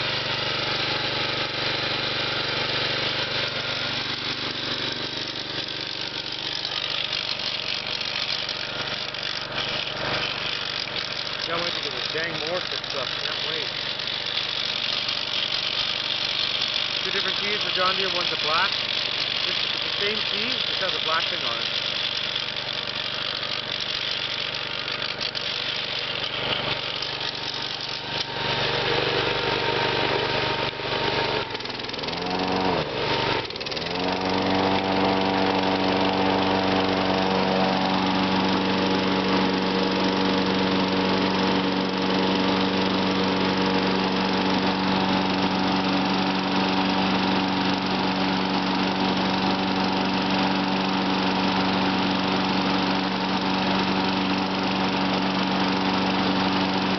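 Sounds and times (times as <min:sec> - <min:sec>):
mower engine running: 0:00.0 - 0:56.9.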